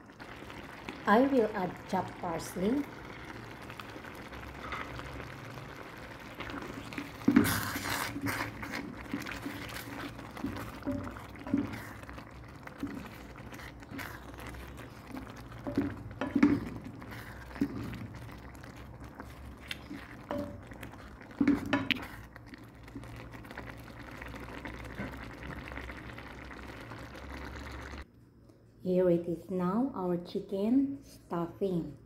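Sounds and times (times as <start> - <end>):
spatula stirring wet filling: 0.0 - 28.0
filling simmering and bubbling: 0.0 - 28.1.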